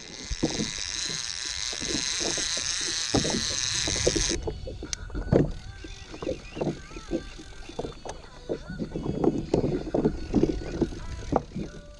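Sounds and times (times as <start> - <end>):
fishing reel buzzing: 0.0 - 8.4, 9.0 - 11.9
water splashes: 0.0 - 11.9.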